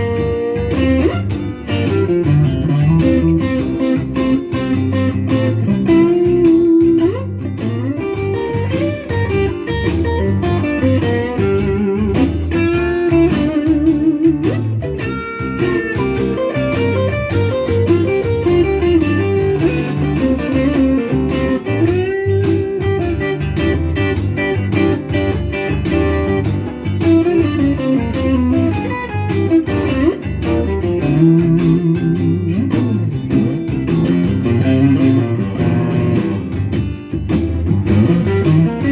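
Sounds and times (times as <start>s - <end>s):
blues electric guitar lead: 0.0s - 38.9s
rhythmic guitar backing: 0.0s - 38.9s.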